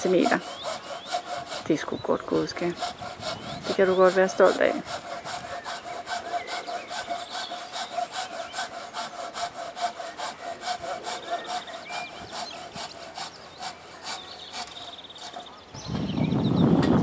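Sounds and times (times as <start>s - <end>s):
handsaw cutting wood: 0.0s - 15.6s.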